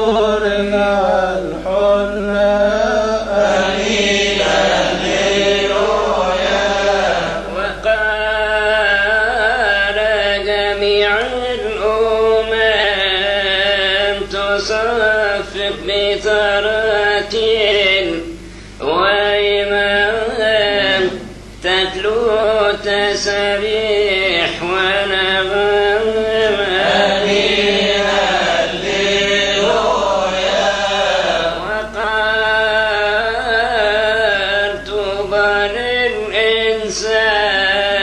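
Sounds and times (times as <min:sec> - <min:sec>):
man chanting a hymn: 0:00.0 - 0:38.0.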